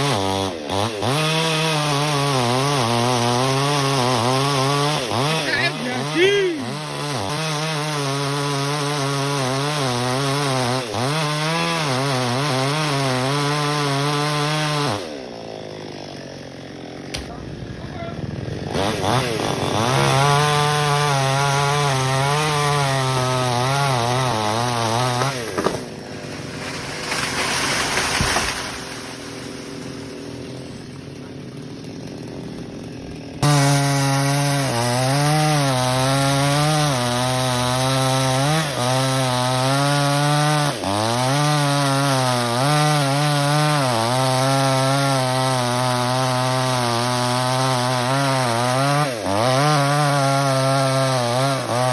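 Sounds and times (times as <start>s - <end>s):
chainsaw cutting branches: 0.0s - 51.9s.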